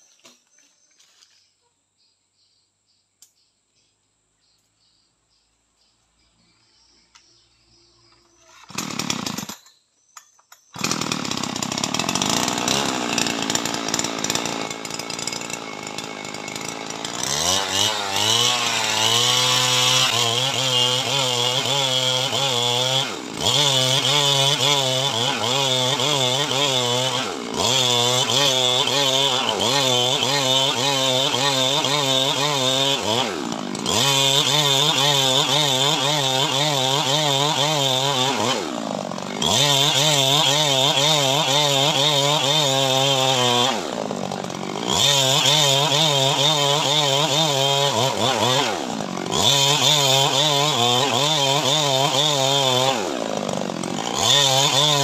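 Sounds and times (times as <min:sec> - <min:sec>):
chainsaw idling: 0:08.2 - 0:09.7, 0:10.6 - 0:55.0
chainsaw cutting log: 0:08.2 - 0:55.0.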